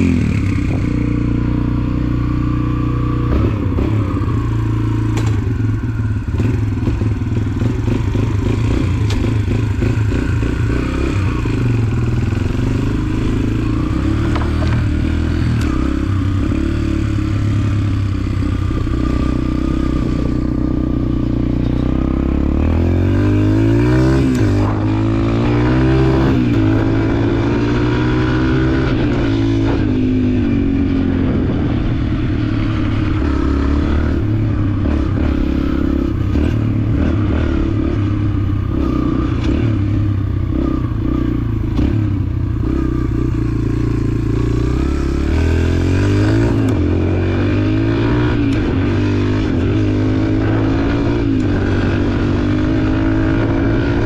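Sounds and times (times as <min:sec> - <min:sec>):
dirt bike engine revving: 0:06.3 - 0:54.0.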